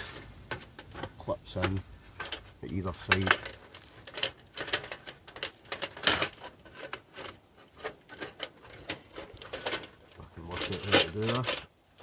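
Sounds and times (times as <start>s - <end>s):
light metal clicks and rattling: 0.0s - 12.0s.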